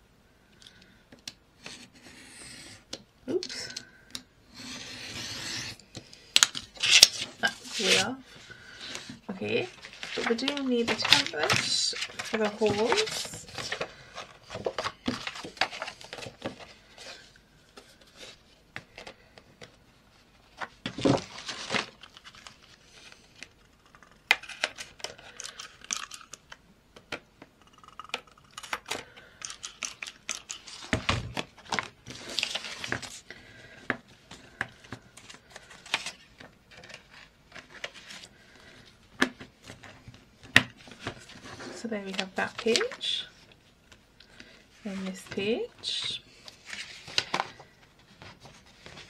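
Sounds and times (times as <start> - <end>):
paper pages rustling: 6.4 - 26.3, 28.6 - 43.1, 43.9 - 49.0.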